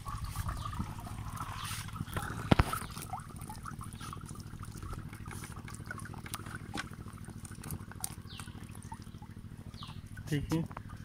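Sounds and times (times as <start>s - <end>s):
fish tapping and rustling: 0.0s - 11.0s
water trickling and dripping: 0.0s - 11.0s.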